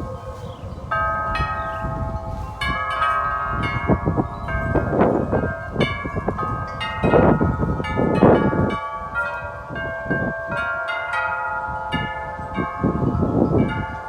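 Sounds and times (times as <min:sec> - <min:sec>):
wind chimes ringing: 0:00.0 - 0:14.0
wind rumble on microphone: 0:00.0 - 0:14.0.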